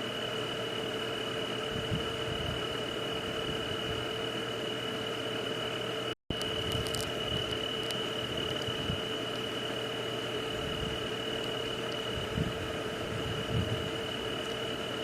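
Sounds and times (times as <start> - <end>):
night insect chorus: 0.0 - 15.0.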